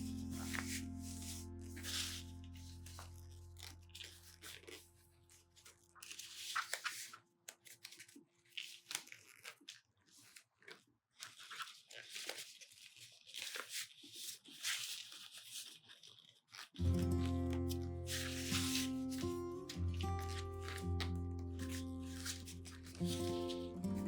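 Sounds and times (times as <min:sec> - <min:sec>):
paper rustling and scraping: 0:00.0 - 0:24.0.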